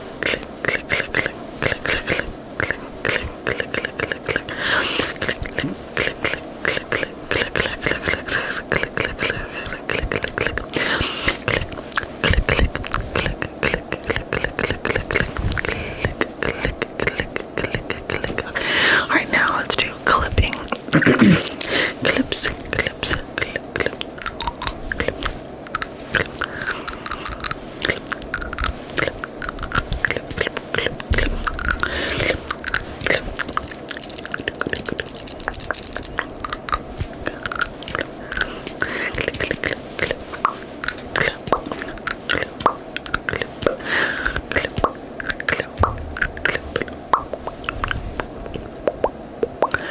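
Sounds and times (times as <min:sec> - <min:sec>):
wet tongue clicks and licking: 0:00.0 - 0:18.6, 0:19.8 - 0:49.9
breathy hiss: 0:00.0 - 0:48.7, 0:49.6 - 0:49.9.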